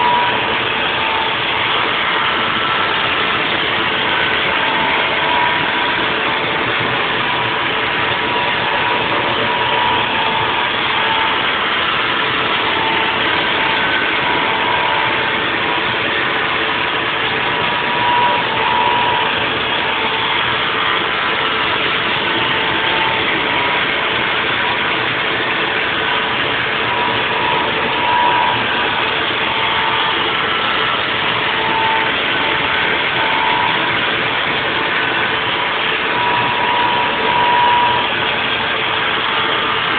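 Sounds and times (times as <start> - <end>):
machine whine: 0.0 - 39.9
milling machine cutting: 0.0 - 39.9.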